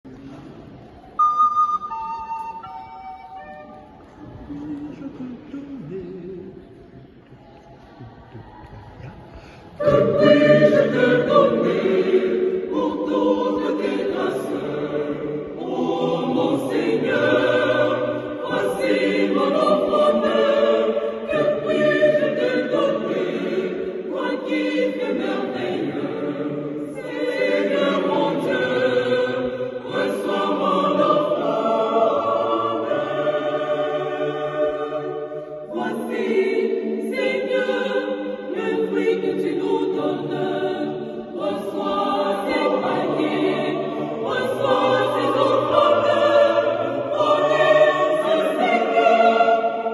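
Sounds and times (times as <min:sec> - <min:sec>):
mixed choir singing a hymn: 0:06.0 - 0:49.9.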